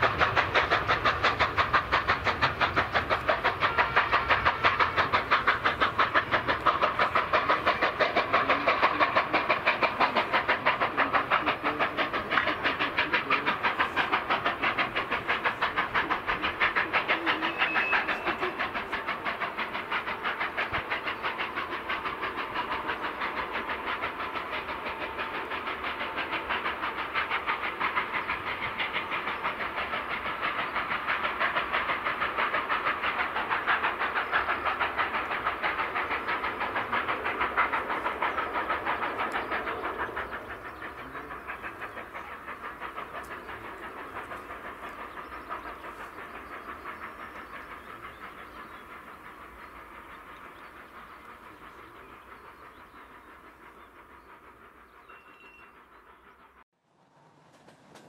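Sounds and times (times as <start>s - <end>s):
train running: 0.0s - 58.0s.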